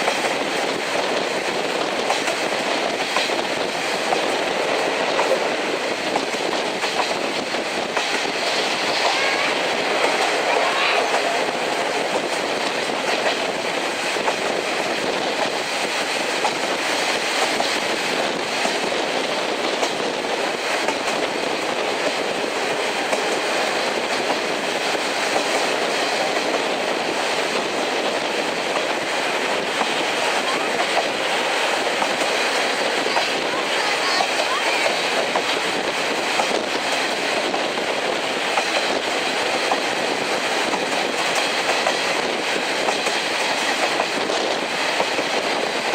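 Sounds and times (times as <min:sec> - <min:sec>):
clickety-clack over rail joints: 0:00.0 - 0:45.9
train wheels rumbling on rails: 0:00.0 - 0:45.9.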